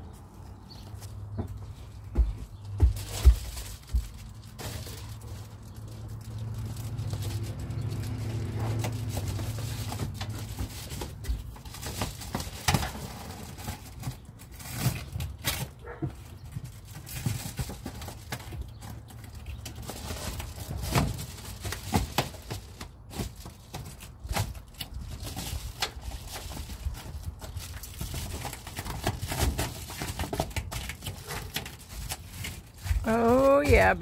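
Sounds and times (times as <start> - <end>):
foil insulation crinkling: 2.8 - 34.0.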